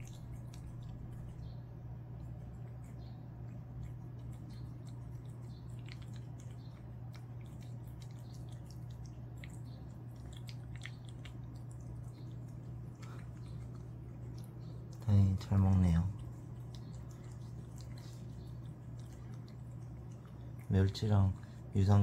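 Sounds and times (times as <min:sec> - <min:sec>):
cat chewing wet food: 0:00.0 - 0:21.9
steady low hum: 0:00.0 - 0:22.0.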